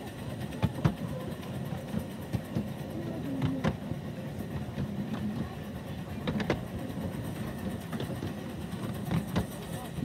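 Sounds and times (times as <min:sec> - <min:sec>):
miniature train rumbling: 0:00.0 - 0:10.0.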